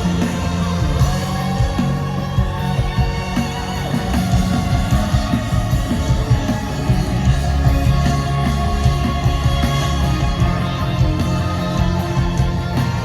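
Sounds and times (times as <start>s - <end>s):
live rock band music: 0.0s - 13.0s.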